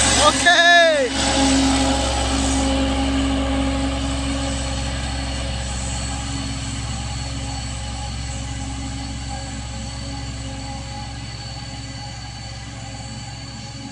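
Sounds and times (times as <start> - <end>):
diesel truck engines labouring: 0.0 - 13.9.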